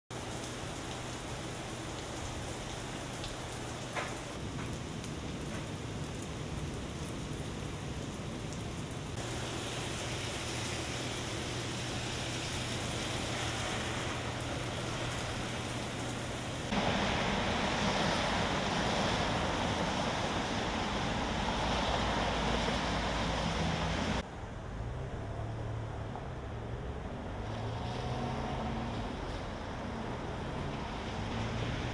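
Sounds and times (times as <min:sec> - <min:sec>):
heavy rain pouring: 0:00.1 - 0:24.2, 0:27.3 - 0:31.9
cars driving on wet road: 0:00.1 - 0:31.9
low hum of passing engines: 0:00.2 - 0:31.9.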